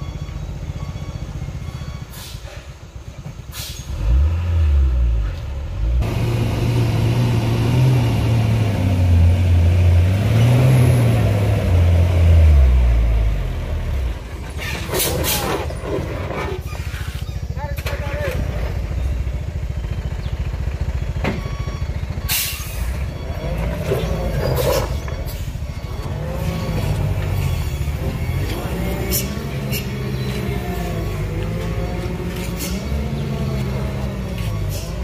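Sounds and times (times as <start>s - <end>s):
diesel truck engine pulling hard: 0.0s - 35.0s.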